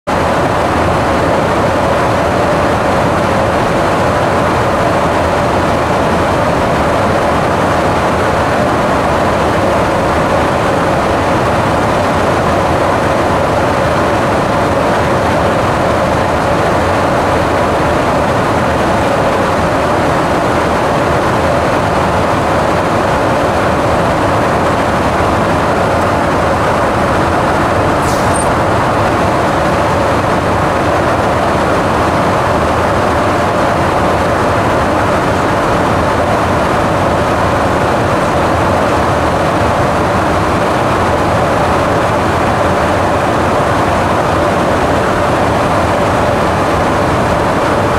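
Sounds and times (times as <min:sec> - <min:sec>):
aircraft engines droning: 0:00.1 - 0:47.9
steady hum: 0:00.1 - 0:47.9
rushing air: 0:06.3 - 0:47.9.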